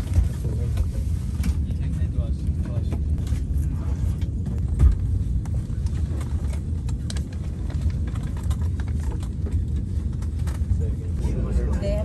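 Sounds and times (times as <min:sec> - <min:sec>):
low rumble in aircraft cabin: 0:00.0 - 0:12.0.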